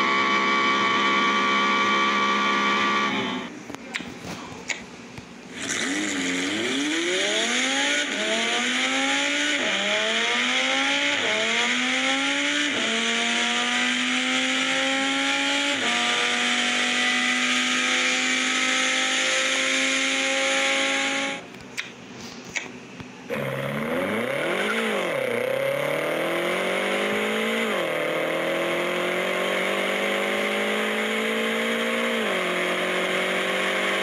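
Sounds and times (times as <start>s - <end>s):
simulated car engine accelerating: 0.0s - 3.5s, 5.5s - 21.5s, 23.2s - 34.0s.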